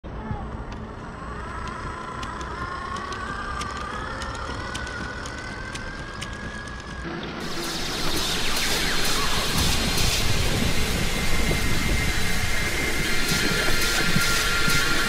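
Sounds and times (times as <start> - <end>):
electric motor whine: 1.6 - 15.0.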